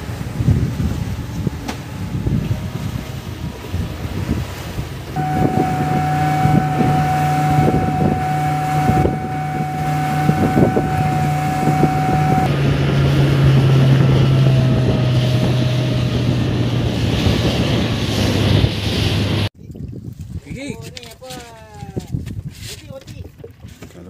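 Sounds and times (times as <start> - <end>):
boat engine humming: 0.0 - 19.5
hull thudding on waves: 0.0 - 19.5
wind on microphone: 0.0 - 24.0.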